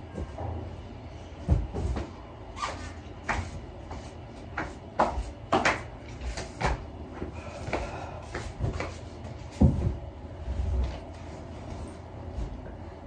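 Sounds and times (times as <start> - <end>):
low room hum: 0.0 - 13.0
bedding rustling and knocks: 1.4 - 6.9, 7.8 - 13.0.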